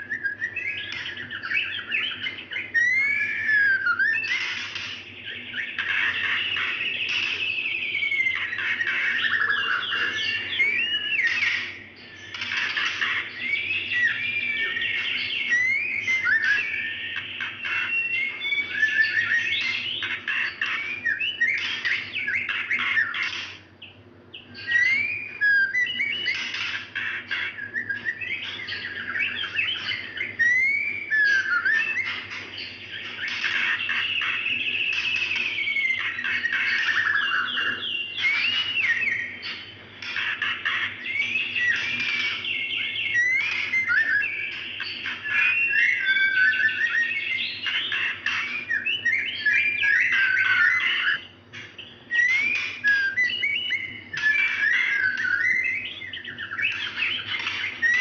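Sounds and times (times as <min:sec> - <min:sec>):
bird whistling and chattering: 0:00.0 - 0:58.0.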